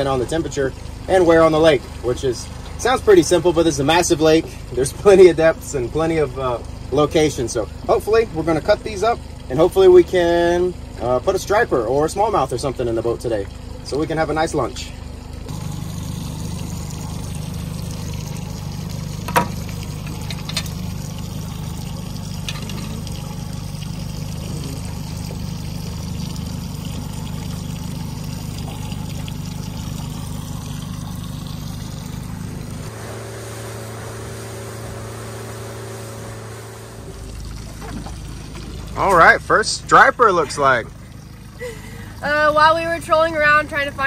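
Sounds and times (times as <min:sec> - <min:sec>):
outboard motor running: 0:00.0 - 0:44.0
water splashing along hull: 0:00.0 - 0:44.0.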